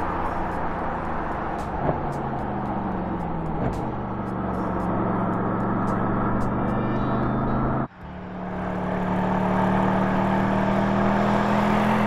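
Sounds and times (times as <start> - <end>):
car engine cruising: 0.0 - 12.0
tyre and road noise: 0.0 - 12.0.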